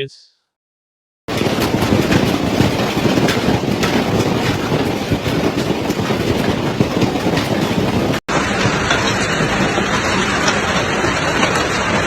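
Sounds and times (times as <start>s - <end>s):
hailstones hitting hard surfaces: 1.3s - 12.0s.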